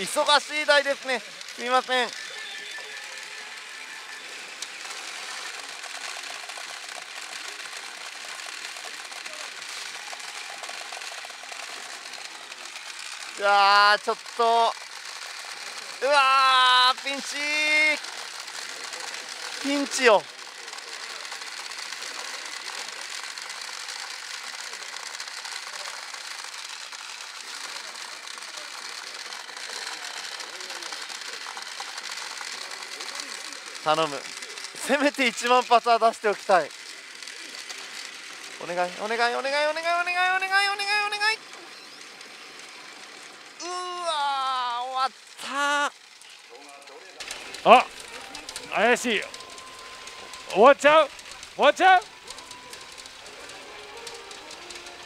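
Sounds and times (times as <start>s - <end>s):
pachinko balls rattling: 0.0s - 43.8s, 47.2s - 55.0s.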